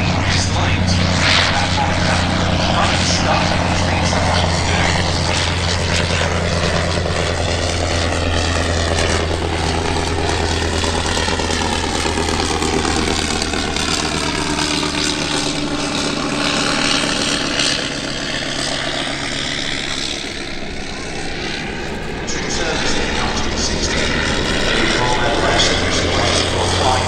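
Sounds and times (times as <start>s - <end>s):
propeller aircraft flying past: 0.0s - 27.0s.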